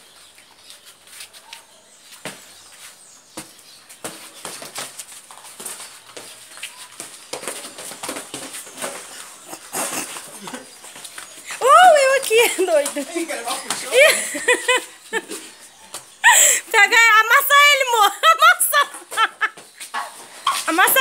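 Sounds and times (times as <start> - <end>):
feet shuffling: 0.0 - 21.0.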